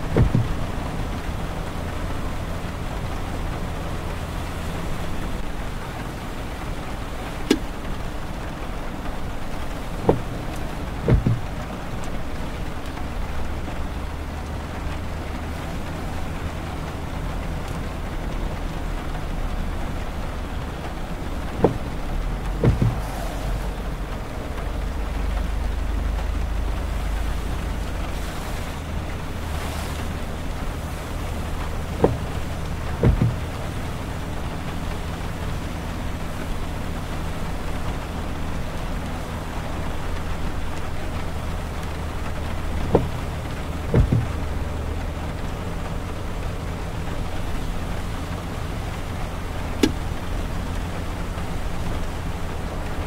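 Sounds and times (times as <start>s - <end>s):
low engine hum: 0.0s - 53.0s
tyre and road hiss: 0.0s - 53.0s
windshield wiper sweeping: 0.0s - 53.0s.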